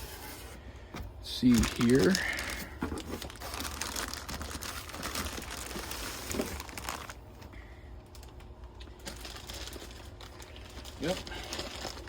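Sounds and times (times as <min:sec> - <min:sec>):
plastic packaging crinkling: 0:01.3 - 0:07.5, 0:08.1 - 0:12.0.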